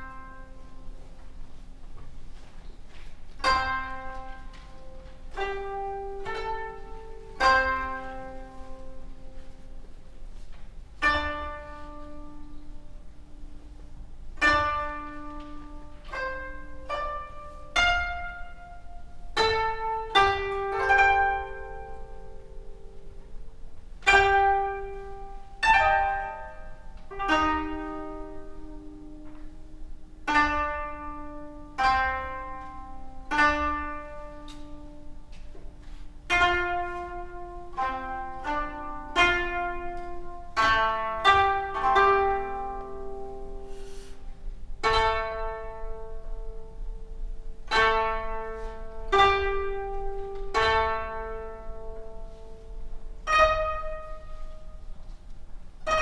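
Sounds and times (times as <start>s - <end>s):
zither plucked notes: 0.0s - 56.0s.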